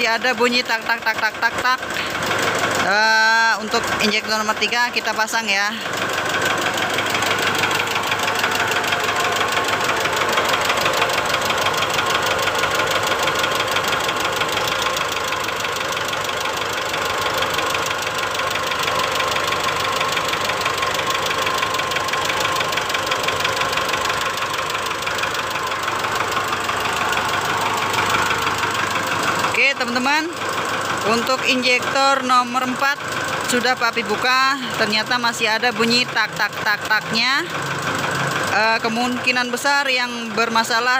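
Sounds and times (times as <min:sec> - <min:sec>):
diesel engine idling rough: 0:00.0 - 0:40.9
rapid engine knocking: 0:00.0 - 0:40.9.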